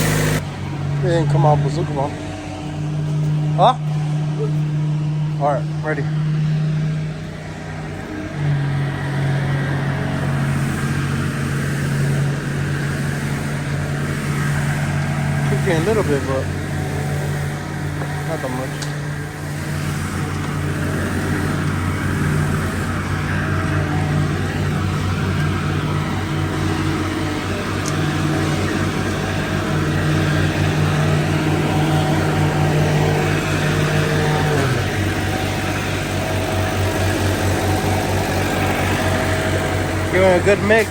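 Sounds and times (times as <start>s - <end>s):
pump engine running under load: 0.0s - 40.9s.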